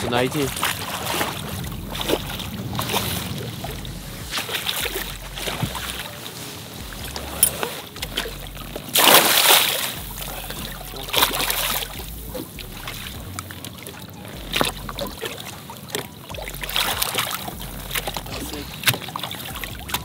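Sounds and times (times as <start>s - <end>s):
fish thrashing and splashing: 0.0s - 20.0s.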